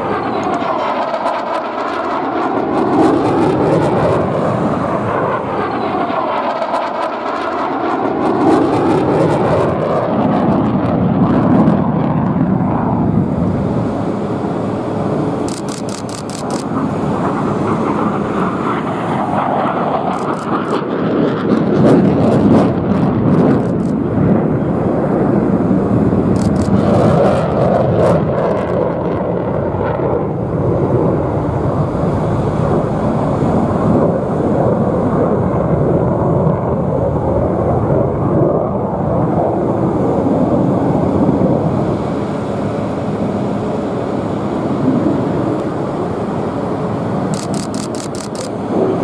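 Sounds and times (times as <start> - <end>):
fighter jet flying past: 0.0 - 49.0.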